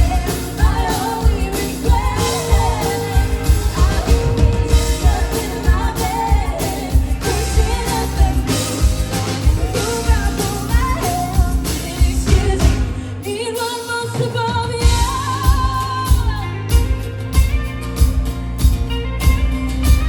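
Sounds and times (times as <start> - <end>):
lead vocalist singing: 0.0 - 16.7
live pop-rock band: 0.0 - 20.0
steady drum beat: 0.0 - 20.0.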